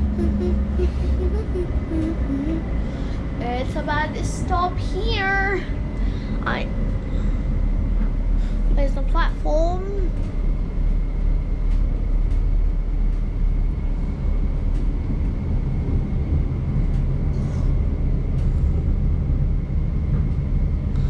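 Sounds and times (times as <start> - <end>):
tram running rumble: 0.0 - 21.0.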